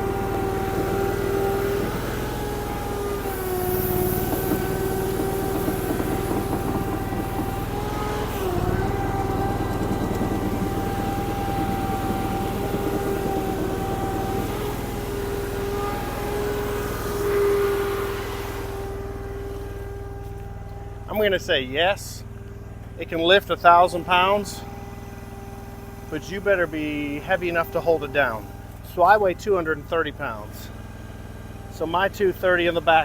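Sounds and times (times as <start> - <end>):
skid steer engine under load: 0.0 - 33.0.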